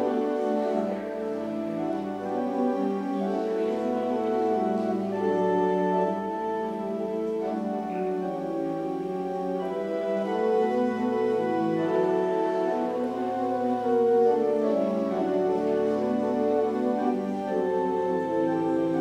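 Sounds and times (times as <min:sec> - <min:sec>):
pipe organ sustained chords: 0:00.0 - 0:19.0.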